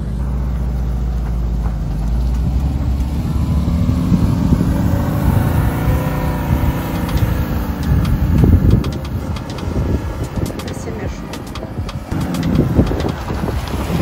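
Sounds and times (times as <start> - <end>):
knocks and rattles of van: 0.0 - 14.0
van engine pulling hard: 0.0 - 14.0.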